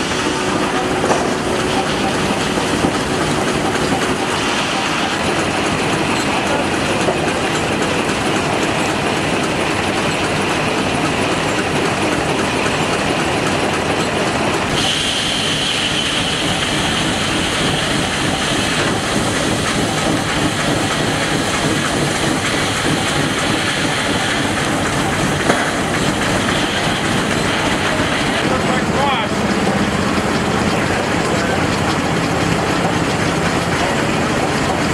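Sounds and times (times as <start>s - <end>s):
high steady whine: 0.0s - 8.2s, 14.5s - 34.9s
steam traction engine running: 0.0s - 34.9s.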